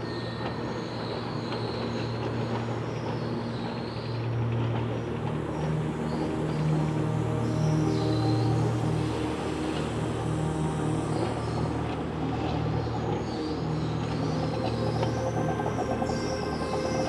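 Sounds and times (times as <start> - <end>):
faint wavering high whine: 0.0 - 17.0
low hum: 0.0 - 17.0.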